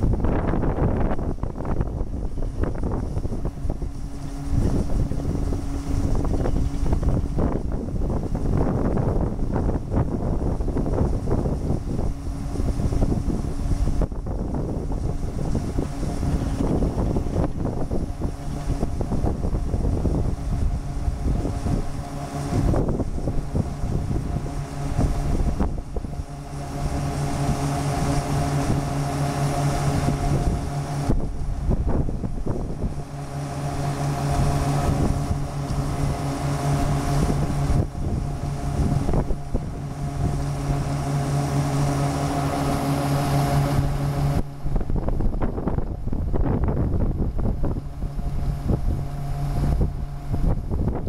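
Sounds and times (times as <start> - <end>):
combine harvester droning: 0.0 - 51.0
wind rumbling on microphone: 0.0 - 51.0.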